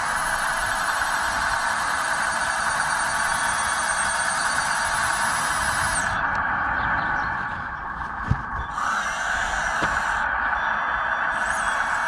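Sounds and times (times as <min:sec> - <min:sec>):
constant motor hum: 0:00.0 - 0:12.0
electric motor whine: 0:00.0 - 0:12.0.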